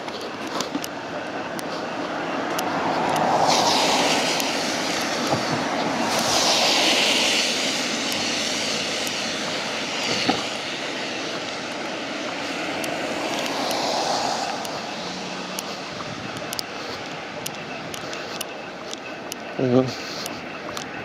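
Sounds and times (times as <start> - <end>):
tyres hissing on wet road: 0.2 - 20.9.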